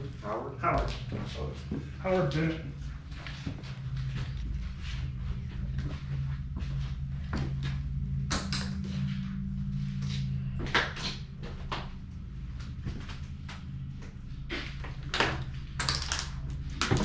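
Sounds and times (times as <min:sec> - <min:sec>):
steady low hum: 0:00.0 - 0:17.0
knocks and scuffs: 0:00.6 - 0:15.6.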